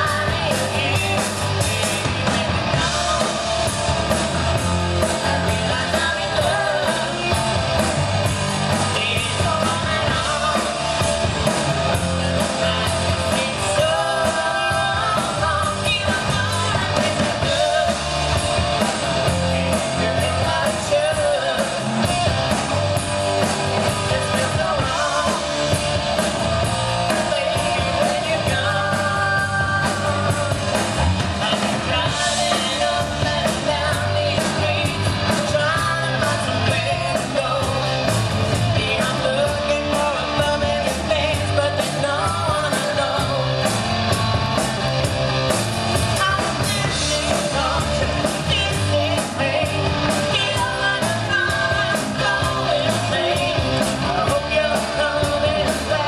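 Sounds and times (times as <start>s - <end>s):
man singing: 0.0s - 4.2s, 4.9s - 8.0s, 8.6s - 22.6s, 23.8s - 26.3s, 26.9s - 43.8s, 46.2s - 56.0s
drums: 0.0s - 56.0s
electric bass guitar: 0.0s - 56.0s.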